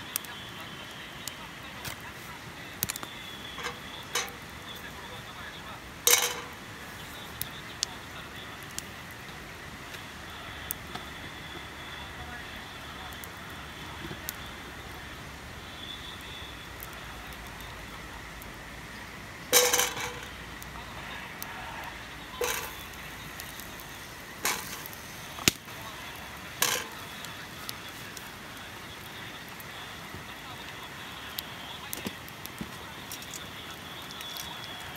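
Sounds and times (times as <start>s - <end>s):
background hiss: 0.0s - 34.9s.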